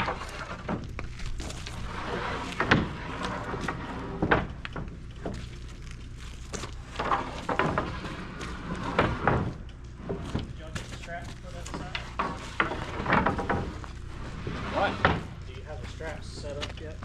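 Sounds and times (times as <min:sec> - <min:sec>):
wooden boards clattering: 0:00.0 - 0:05.7, 0:06.4 - 0:16.8
steady low hum: 0:00.0 - 0:17.0.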